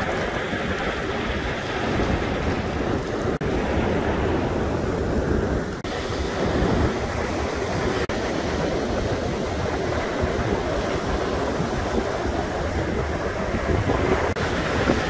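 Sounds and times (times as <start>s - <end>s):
surf washing over pebble beach: 0.0s - 15.0s
wind buffeting microphone: 0.0s - 15.0s.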